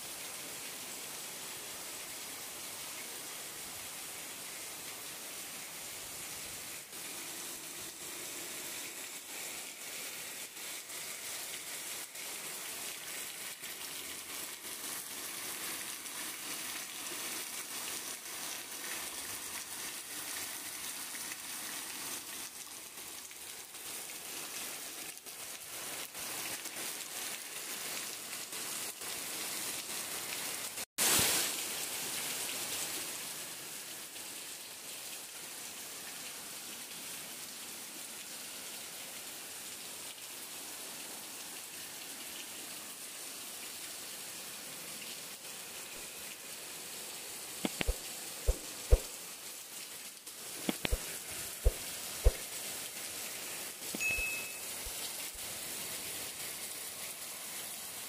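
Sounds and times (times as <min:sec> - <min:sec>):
heavy rain falling: 0:00.2 - 0:34.6, 0:35.2 - 0:58.0.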